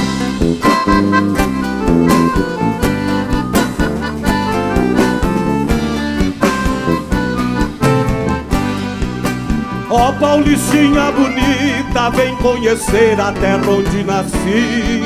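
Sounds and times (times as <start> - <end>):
drum kit beat: 0.0 - 15.0
live band playing instrumental: 0.0 - 15.0
piano accordion: 0.0 - 15.0.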